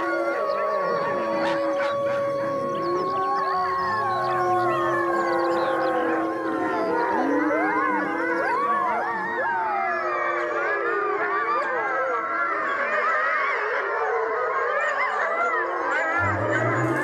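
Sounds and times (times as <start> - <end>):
wolves howling in chorus: 0.0 - 17.0.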